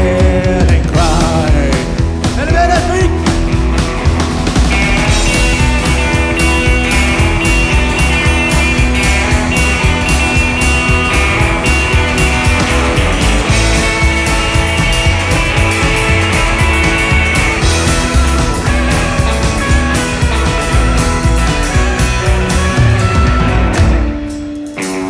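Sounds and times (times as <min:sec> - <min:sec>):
bass and drum beat: 0:00.0 - 0:25.0
electric guitar: 0:00.0 - 0:25.0.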